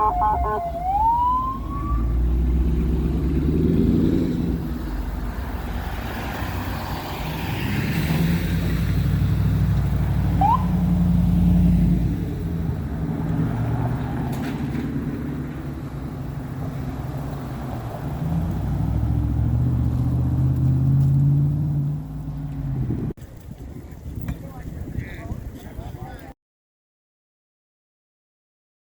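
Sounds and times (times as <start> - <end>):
vehicle engines rumbling: 0.0 - 26.4.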